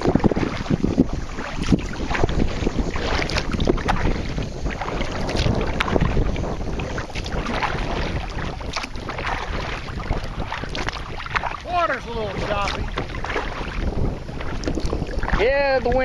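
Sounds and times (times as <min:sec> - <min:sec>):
choppy water splashing: 0:00.0 - 0:16.0
wind buffeting microphone: 0:00.0 - 0:16.0.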